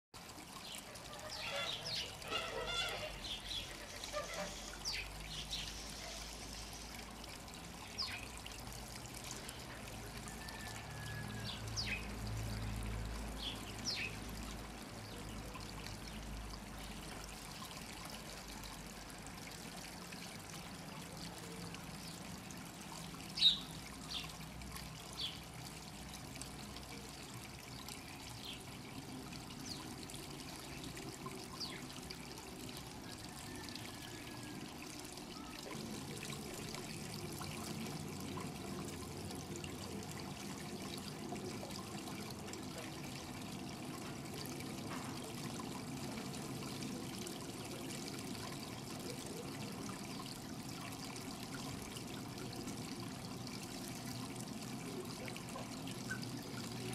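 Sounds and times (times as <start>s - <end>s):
water trickling over stones: 0.2s - 56.9s.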